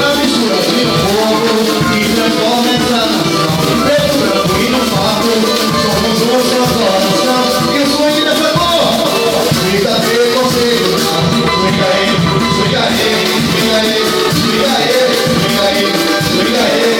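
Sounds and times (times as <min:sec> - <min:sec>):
samba group playing: 0:00.0 - 0:16.9.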